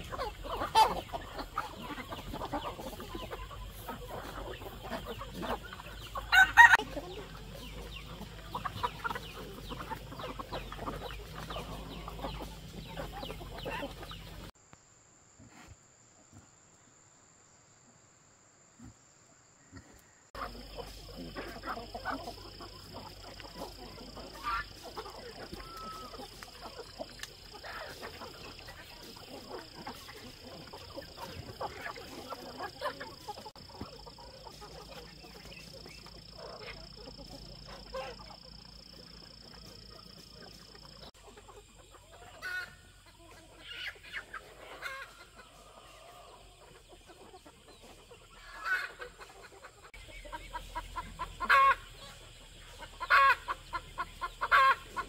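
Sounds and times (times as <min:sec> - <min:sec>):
chickens clucking: 0:00.0 - 0:14.6, 0:19.7 - 0:55.0.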